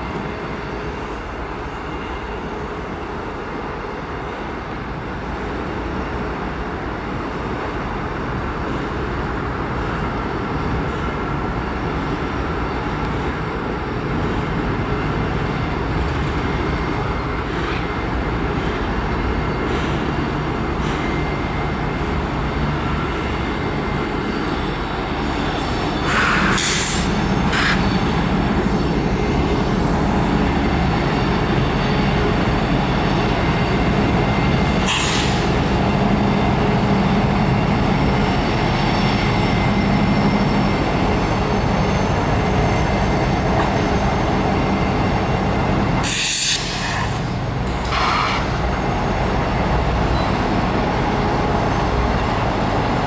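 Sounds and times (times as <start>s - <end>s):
diesel locomotive engine: 0.0s - 53.0s
train wheels rumbling on trestle: 8.4s - 53.0s.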